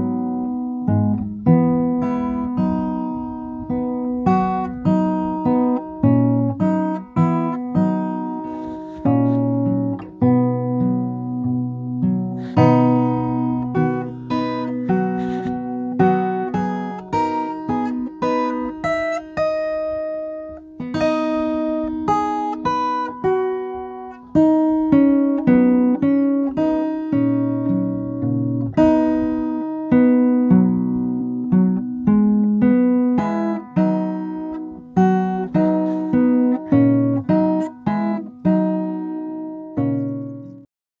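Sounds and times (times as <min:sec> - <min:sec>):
acoustic guitar music: 0:00.0 - 0:40.7.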